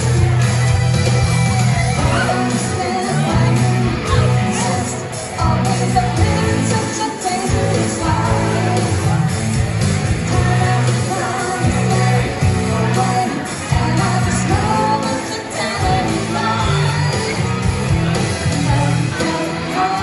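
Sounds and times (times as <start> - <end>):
live rock band playing: 0.0 - 20.0
person singing: 1.8 - 20.0.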